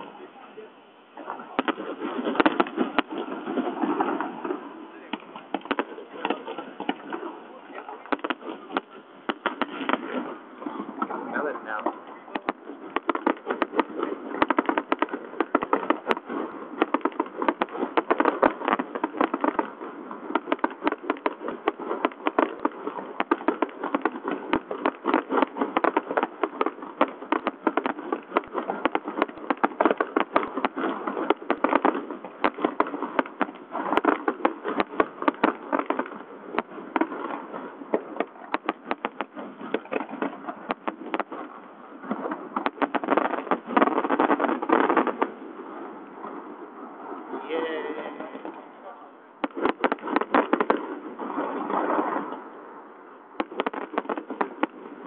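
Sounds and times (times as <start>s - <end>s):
fireworks bangs and crackle: 0.0s - 55.0s.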